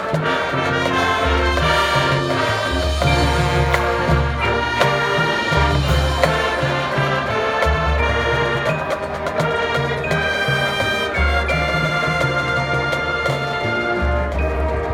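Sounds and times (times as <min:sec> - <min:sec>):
brass melody: 0:00.0 - 0:14.9
marching band playing: 0:00.0 - 0:14.9
sharp percussion strikes: 0:00.0 - 0:14.9.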